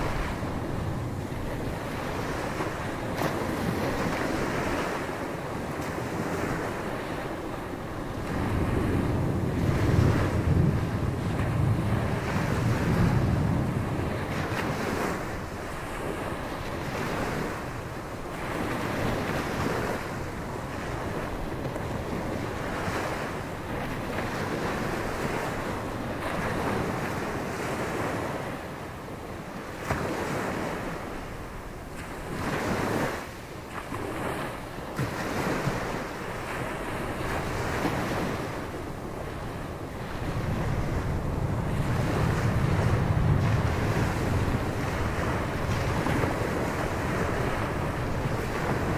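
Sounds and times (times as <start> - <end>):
ocean surf breaking: 0.0 - 48.9
wind buffeting microphone: 0.0 - 48.9.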